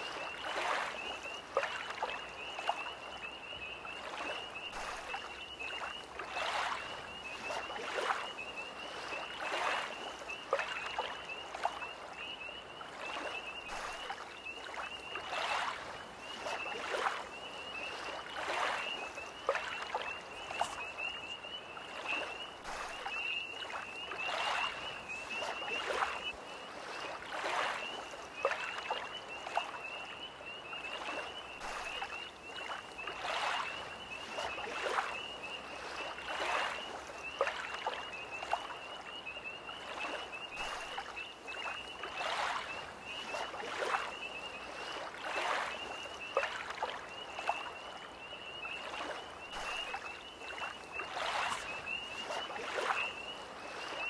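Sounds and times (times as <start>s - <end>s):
lake waves lapping at shore: 0.0s - 54.0s.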